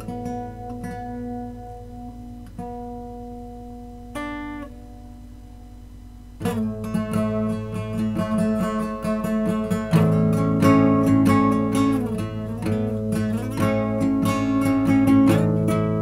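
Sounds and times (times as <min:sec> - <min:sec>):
guitar picked and strummed: 0:00.0 - 0:16.0.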